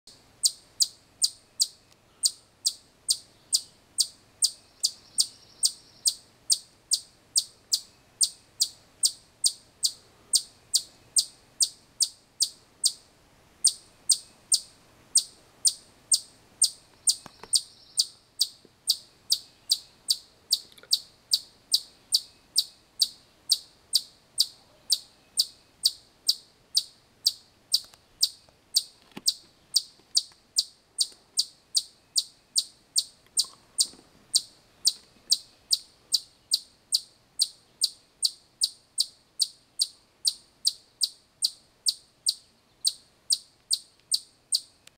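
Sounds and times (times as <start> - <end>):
chipmunk chip alarm call: 0.4 - 44.8.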